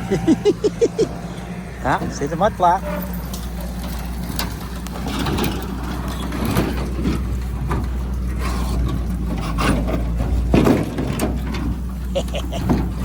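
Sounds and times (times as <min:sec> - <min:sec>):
diesel machinery engine running: 0:00.0 - 0:13.0
metallic clanks and knocks: 0:01.9 - 0:13.0.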